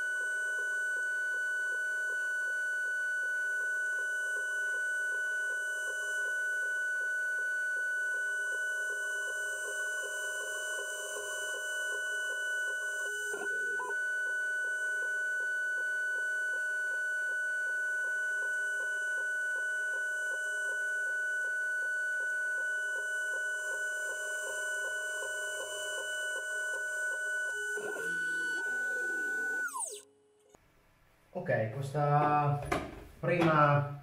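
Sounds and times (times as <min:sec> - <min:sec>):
milling spindle whining: 0:00.0 - 0:30.1.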